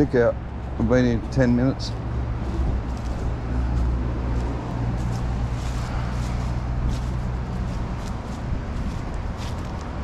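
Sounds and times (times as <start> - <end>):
footsteps on grass and leaves: 0.0 - 10.0
steady low rumble: 0.0 - 10.0.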